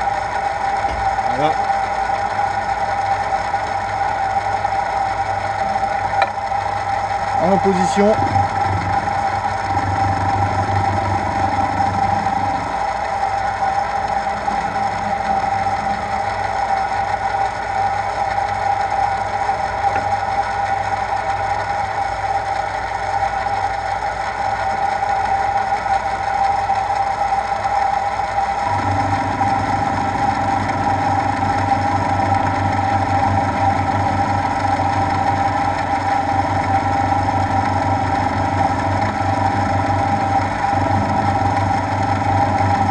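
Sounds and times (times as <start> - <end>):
low machine hum: 0.0 - 42.9
milling machine cutting metal: 0.0 - 42.9.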